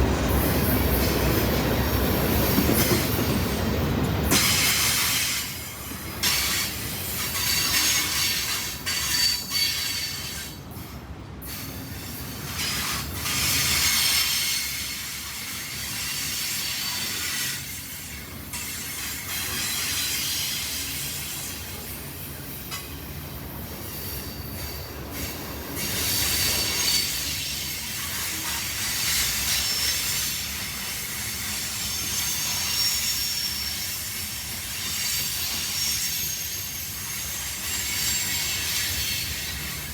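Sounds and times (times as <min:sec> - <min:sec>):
freight train cars rolling: 0:00.0 - 0:39.9
steel wheels squealing: 0:04.3 - 0:39.9.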